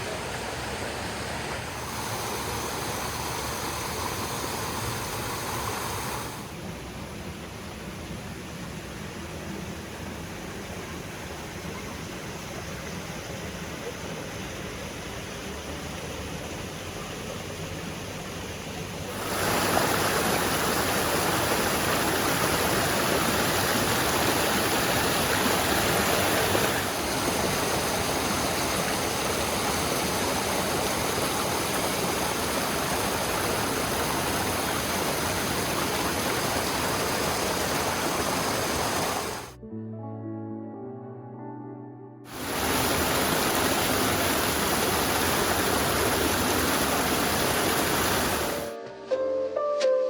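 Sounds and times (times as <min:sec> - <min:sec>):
brook water rushing over rocks: 0:00.0 - 0:39.6, 0:42.3 - 0:48.8.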